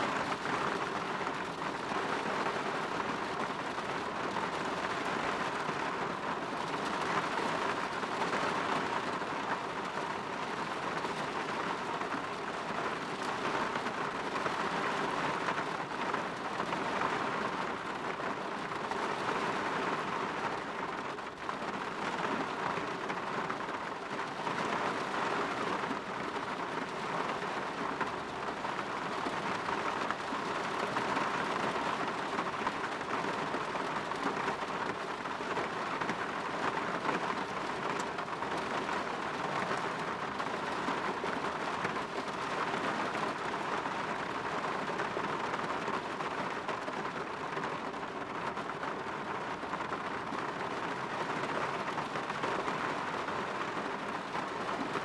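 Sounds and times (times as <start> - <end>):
rain on a window: 0.0 - 55.0.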